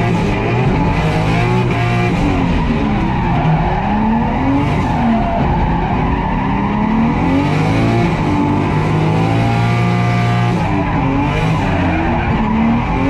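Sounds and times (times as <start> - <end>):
car engine revving: 0.0 - 13.0
tyres skidding: 0.0 - 13.0.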